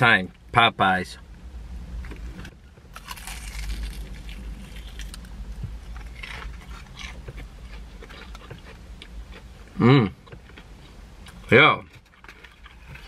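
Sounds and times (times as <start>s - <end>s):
crunchy bites and chewing: 2.1s - 13.0s.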